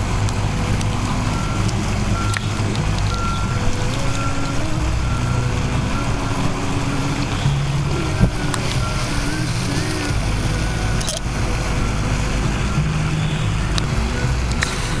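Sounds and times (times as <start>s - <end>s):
fountain water splashing: 0.0s - 15.0s
low rumble: 0.0s - 15.0s.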